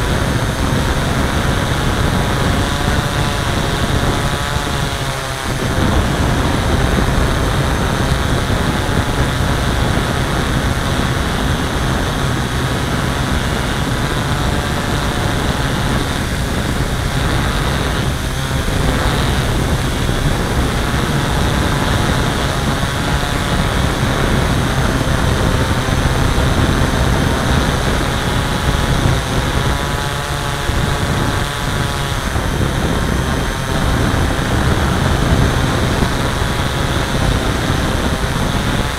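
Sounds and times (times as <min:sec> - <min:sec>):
drone motors whirring: 0:00.0 - 0:38.9.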